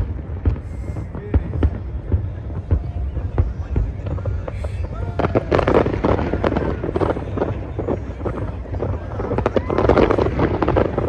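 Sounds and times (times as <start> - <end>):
crowd voices: 0.0 - 11.0
fireworks crackling and banging: 0.0 - 11.0.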